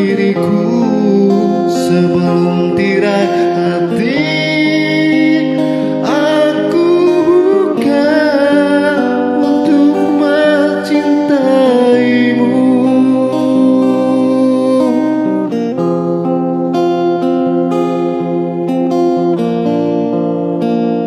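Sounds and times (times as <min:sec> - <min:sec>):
man singing into a microphone: 0:00.0 - 0:18.5
guitar accompaniment: 0:00.0 - 0:21.0.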